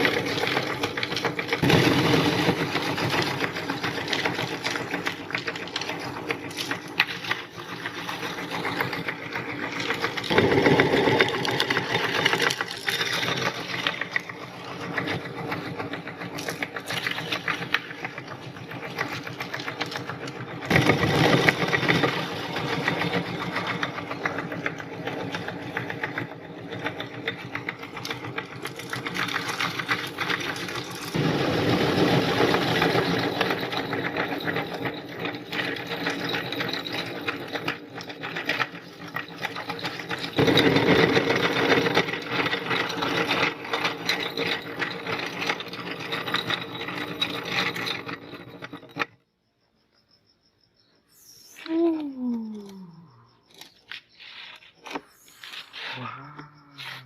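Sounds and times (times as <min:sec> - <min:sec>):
meat grinder whirring and crunching: 0:00.0 - 0:48.3.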